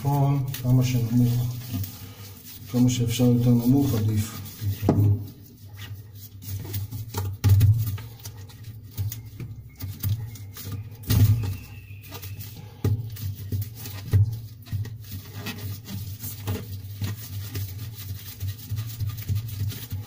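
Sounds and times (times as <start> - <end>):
plastic scraping and rustling: 0.0 - 20.0.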